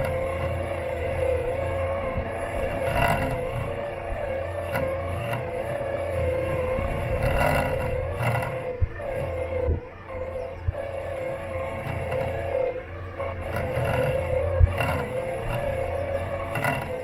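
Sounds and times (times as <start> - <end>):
chassis rumble: 0.0 - 17.0
robot lawn mower motor whine: 0.0 - 17.0.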